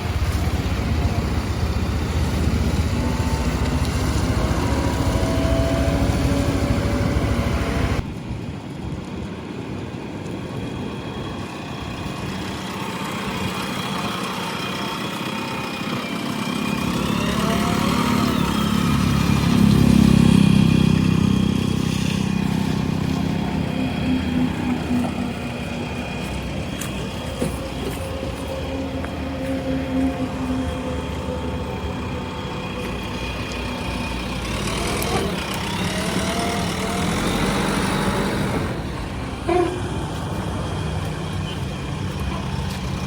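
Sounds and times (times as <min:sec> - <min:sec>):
backhoe diesel engine digging: 0:00.0 - 0:08.1, 0:11.2 - 0:43.0.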